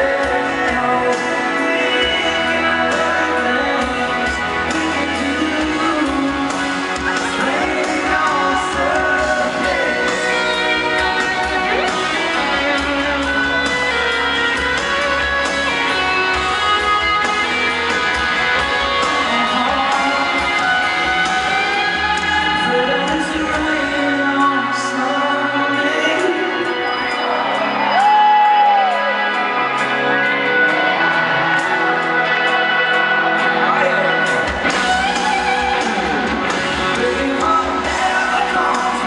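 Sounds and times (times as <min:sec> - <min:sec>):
country-pop band music: 0:00.0 - 0:39.0
person singing: 0:00.0 - 0:39.0.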